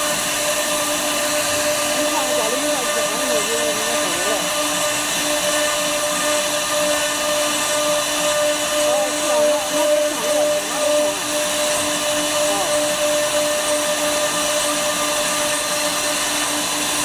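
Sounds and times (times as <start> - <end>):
cnc router spindle whining: 0.0 - 17.0
hiss of wood cutting: 0.0 - 17.0.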